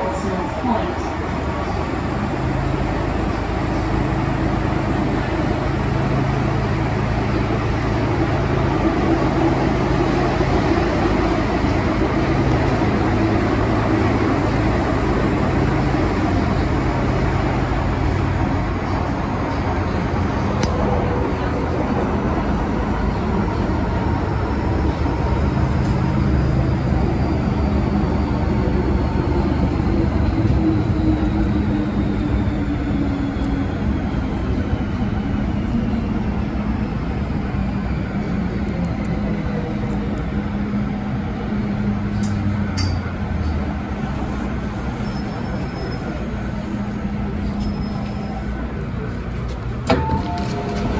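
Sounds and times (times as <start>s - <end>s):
train wheels rumbling on track: 0.0s - 50.9s.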